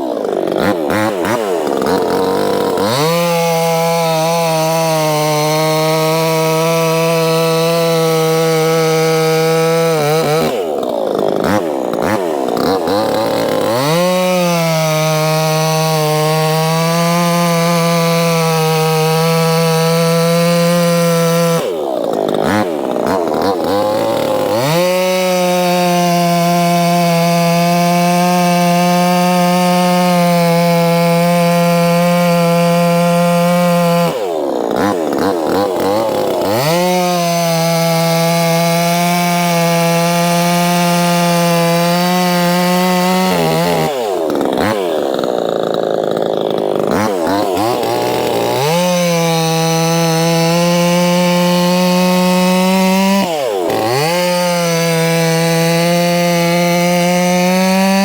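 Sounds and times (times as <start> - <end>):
chainsaw cutting firewood: 0.0 - 58.0.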